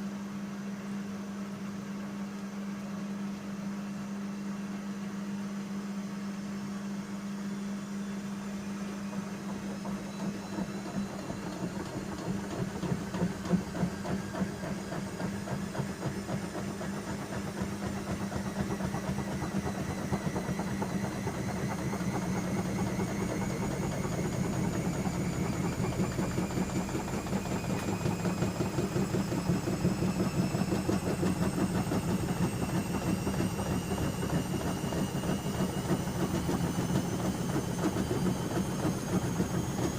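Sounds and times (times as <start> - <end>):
washing machine motor whine: 0.0 - 39.9.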